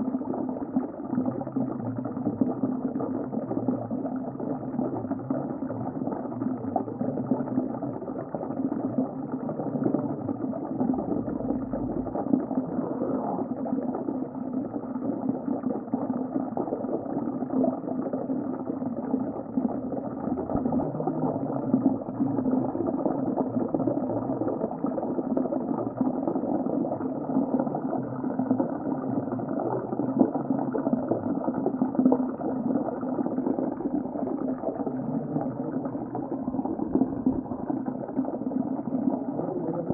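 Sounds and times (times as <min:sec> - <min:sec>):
muffled underwater rush of water: 0:00.0 - 0:39.9
water bubbling and crackling: 0:00.0 - 0:39.9.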